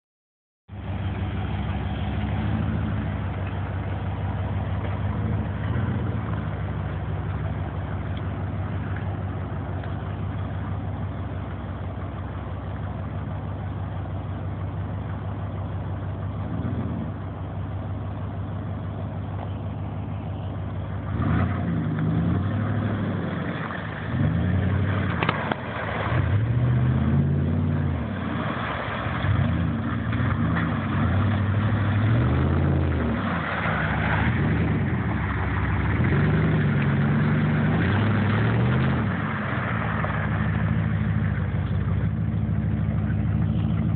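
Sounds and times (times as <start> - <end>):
car engine revving: 0.7 - 43.9.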